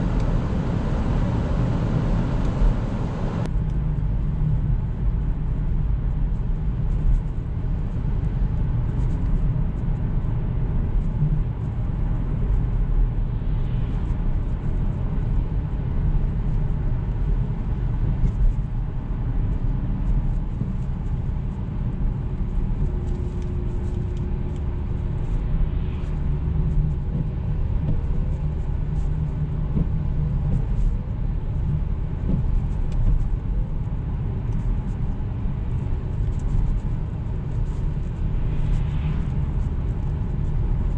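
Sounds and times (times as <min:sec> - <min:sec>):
car engine rumble: 0:00.0 - 0:40.9
road noise: 0:00.0 - 0:40.9.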